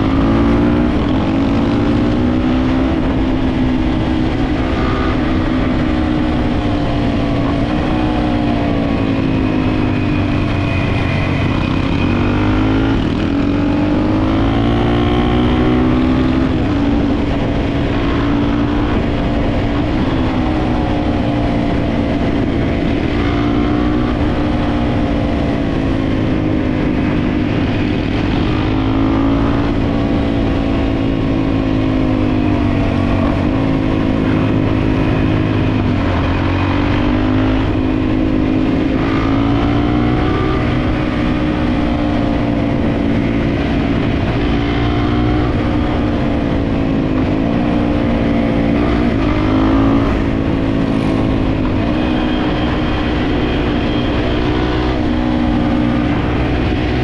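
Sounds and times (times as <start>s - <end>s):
dirt bike engine revving: 0.0s - 57.0s
wind rumble on microphone: 0.0s - 57.0s.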